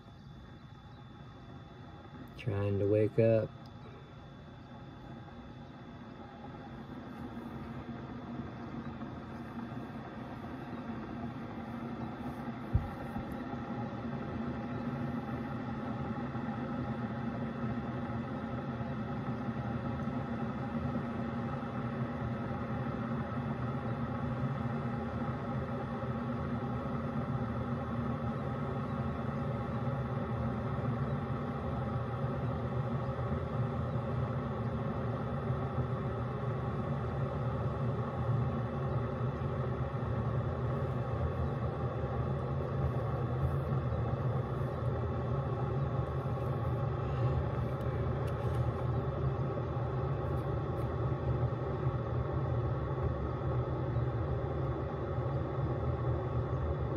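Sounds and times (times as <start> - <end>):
coffee brewer humming: 0.0 - 56.9.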